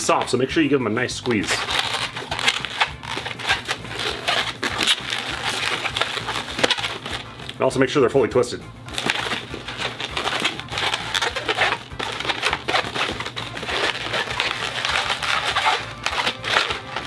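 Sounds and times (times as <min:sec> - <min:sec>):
balloon rubbing squeaks: 0:00.0 - 0:07.7, 0:08.9 - 0:17.0.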